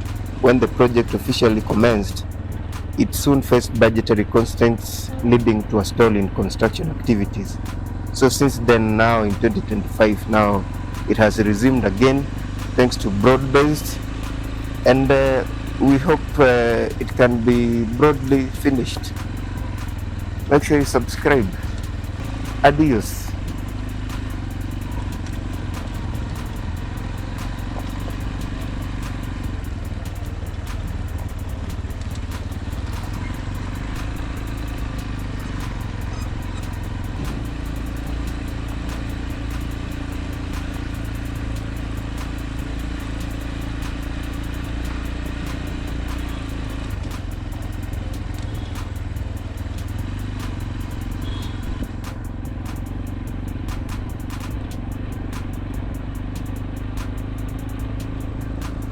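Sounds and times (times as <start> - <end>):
road noise: 0.0 - 58.9
vehicle engine running: 0.0 - 58.9.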